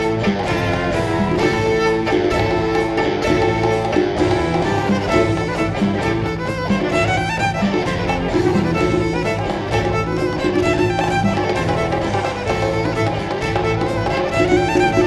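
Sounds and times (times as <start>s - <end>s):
fast fiddle tune with band: 0.0s - 15.0s.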